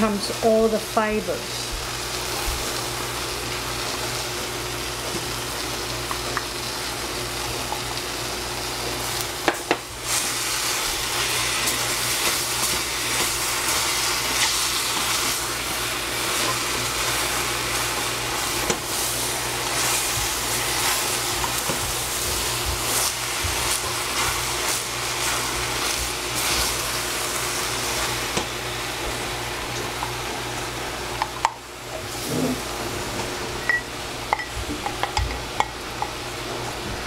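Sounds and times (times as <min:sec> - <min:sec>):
food sizzling in a saucepan: 0:00.0 - 0:36.6.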